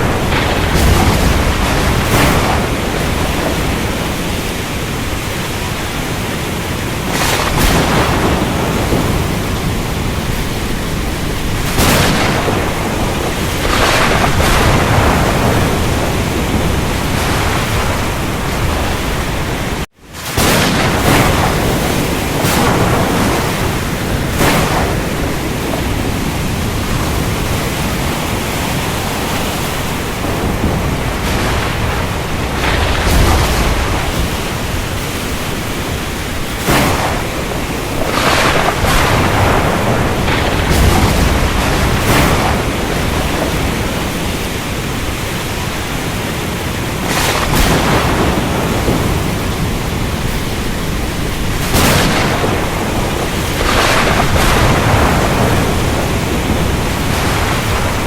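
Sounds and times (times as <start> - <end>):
rain: 0.0 - 58.0
surf waves breaking: 0.0 - 58.0
thunder crashes: 0.0 - 58.0.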